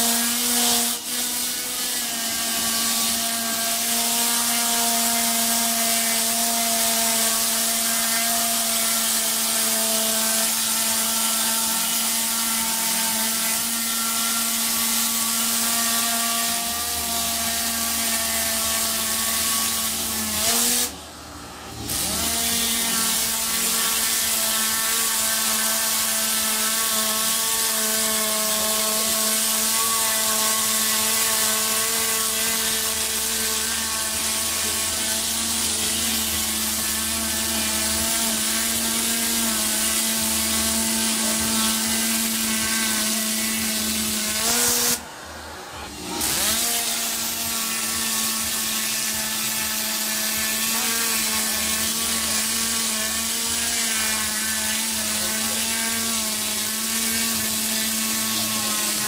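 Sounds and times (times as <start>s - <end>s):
electric motor whining: 0.0s - 59.0s.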